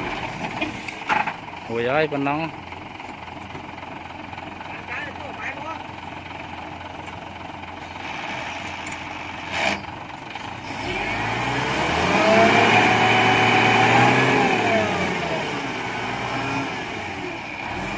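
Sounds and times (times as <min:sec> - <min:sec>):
diesel truck engine revving: 0:01.6 - 0:17.9.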